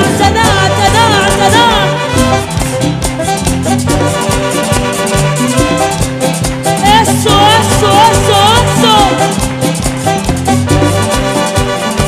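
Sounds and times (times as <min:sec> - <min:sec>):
live band playing: 0:00.0 - 0:12.0
saxophones: 0:00.0 - 0:12.0.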